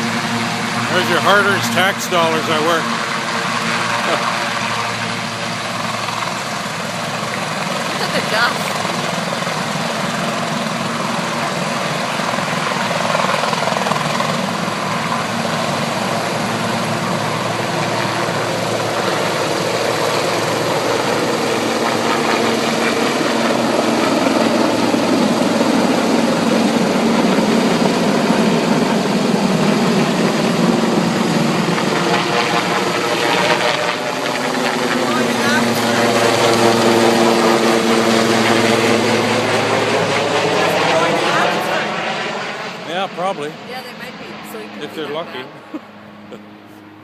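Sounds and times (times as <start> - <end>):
helicopter rotor and engine: 0.0 - 47.0.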